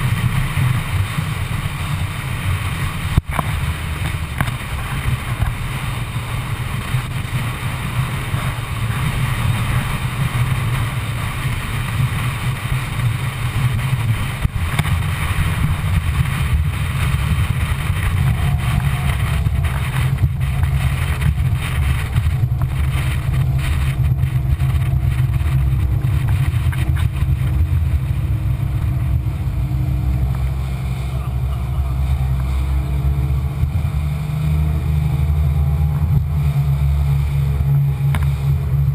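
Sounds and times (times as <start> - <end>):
outboard engine running: 0.0 - 38.9
water rushing along hull: 0.0 - 38.9.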